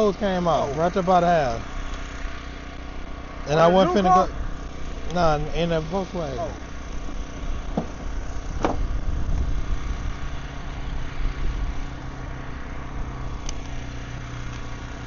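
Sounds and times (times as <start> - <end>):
engine running with low rumble: 0.0 - 15.0.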